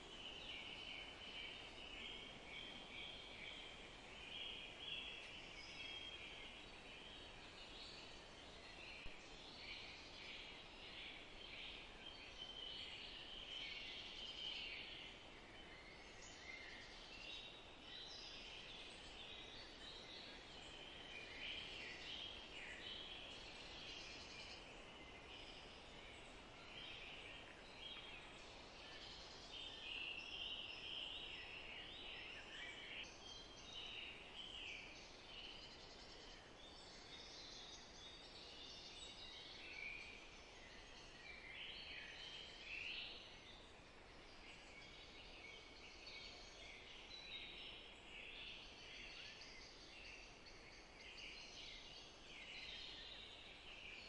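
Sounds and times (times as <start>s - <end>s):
small birds chirping and singing: 0.0s - 54.0s
soft steady hiss: 0.0s - 54.0s.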